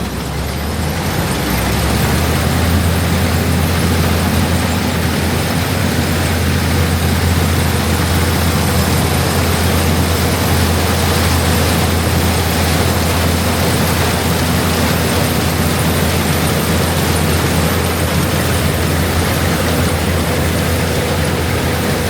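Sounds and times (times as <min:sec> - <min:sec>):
heavy farm machinery running: 0:00.0 - 0:22.0.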